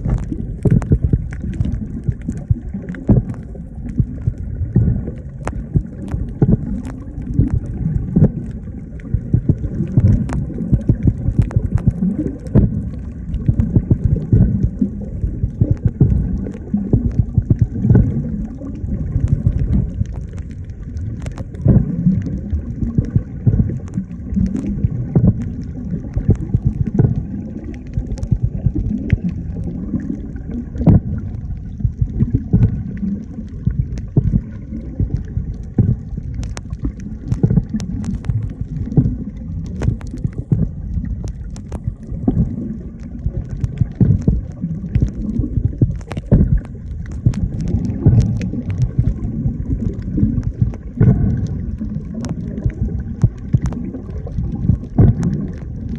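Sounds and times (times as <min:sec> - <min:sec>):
underwater rumbling and gurgling: 0:00.0 - 0:55.9.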